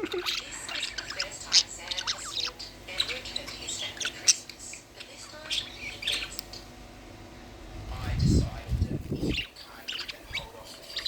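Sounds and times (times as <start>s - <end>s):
budgerigars chirping and squawking: 0.0s - 6.7s, 8.0s - 11.0s.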